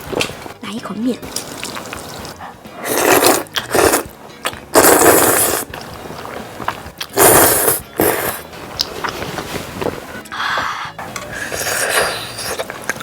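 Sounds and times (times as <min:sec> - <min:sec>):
noodle slurping: 0:01.2 - 0:13.0.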